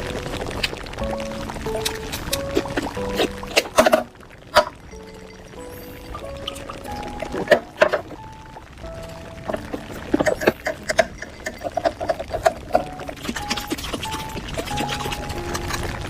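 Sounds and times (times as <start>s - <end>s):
simple melody of held notes: 0.0s - 16.0s.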